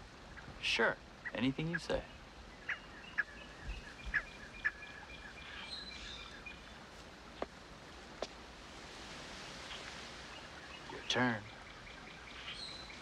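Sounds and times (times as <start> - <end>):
birds chirping: 0.0 - 13.0
faint outdoor ambience: 0.0 - 13.0.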